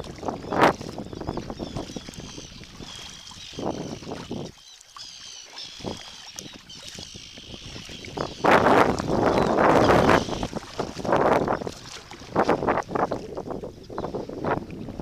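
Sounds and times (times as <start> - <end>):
faint wind: 0.0 - 15.0
paddle strokes splashing water: 0.0 - 15.0.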